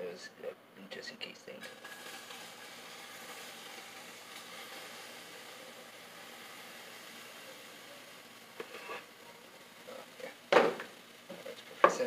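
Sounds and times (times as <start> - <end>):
batter sizzling in frying pan: 1.6 - 12.0.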